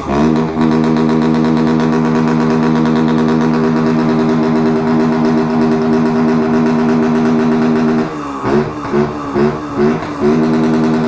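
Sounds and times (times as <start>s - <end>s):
loud motorcycle engine idling: 0.0s - 11.0s.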